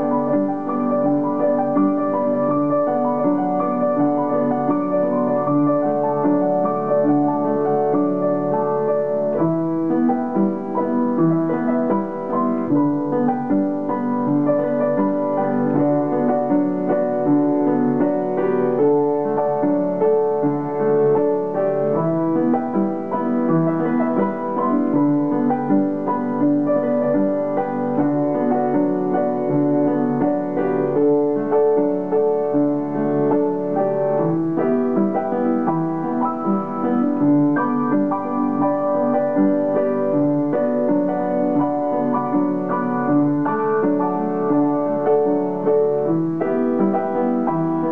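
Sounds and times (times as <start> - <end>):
solo piano music: 0.0 - 47.9.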